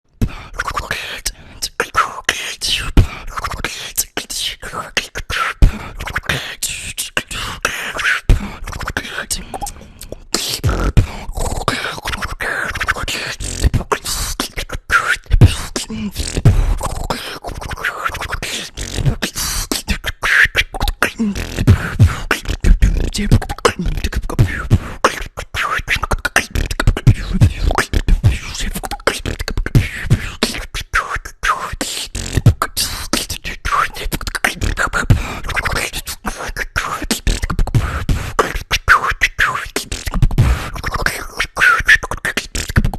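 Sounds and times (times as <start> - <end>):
person beatboxing: 0.1 - 42.9.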